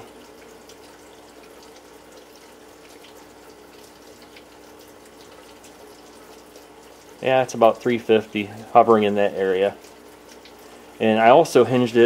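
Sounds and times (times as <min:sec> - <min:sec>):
faint steady hum: 0:00.0 - 0:12.0
water drips: 0:00.0 - 0:12.0
water pattering and splashing: 0:00.0 - 0:12.0.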